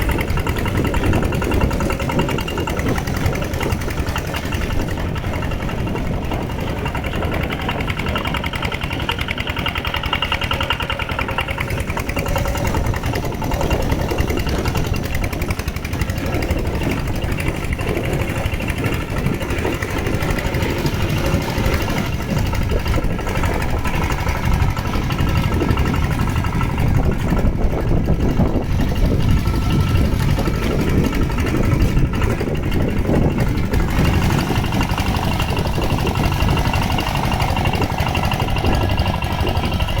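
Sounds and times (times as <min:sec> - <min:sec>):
tractor engine under load: 0:00.0 - 0:40.0.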